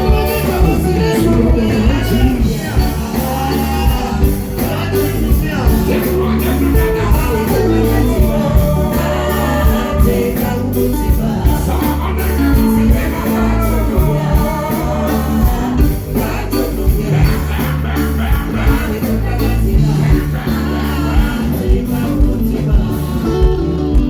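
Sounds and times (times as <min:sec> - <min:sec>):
music with heavy bass beat: 0:00.0 - 0:24.0
person singing: 0:00.0 - 0:24.0.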